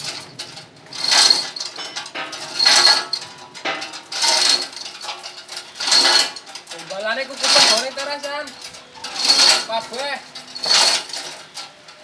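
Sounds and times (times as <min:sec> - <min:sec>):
metal chain links clinking: 0:00.0 - 0:12.0.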